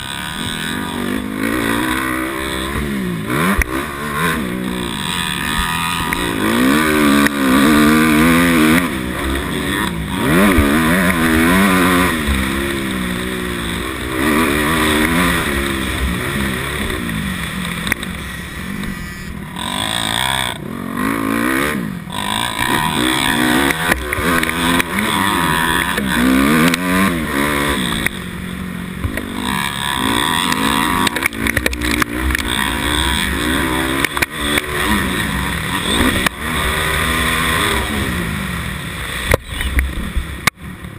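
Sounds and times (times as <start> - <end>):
motocross bike engine revving: 0.0 - 40.8.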